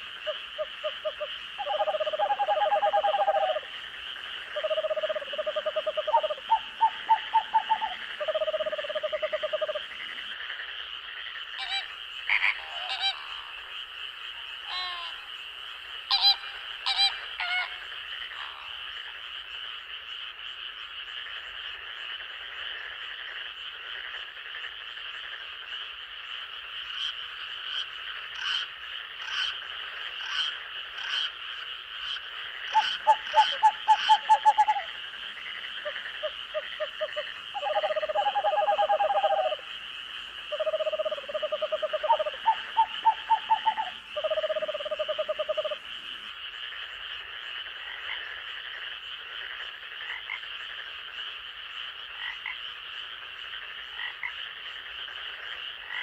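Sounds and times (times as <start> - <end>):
frogs calling: 0.0 - 56.0
night insects trilling: 0.0 - 56.0.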